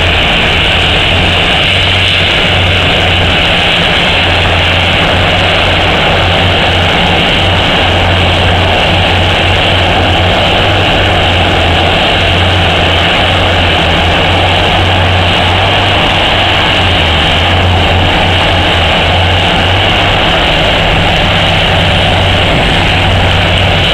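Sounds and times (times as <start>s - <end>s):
mining shovel heavy drone: 0.0s - 23.9s.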